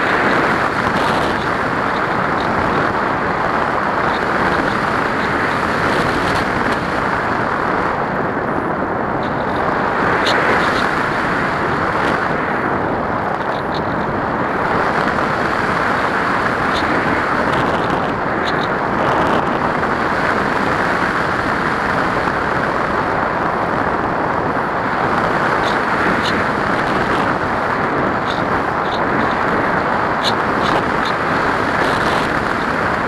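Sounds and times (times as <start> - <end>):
airflow rushing over camera: 0.0 - 33.0.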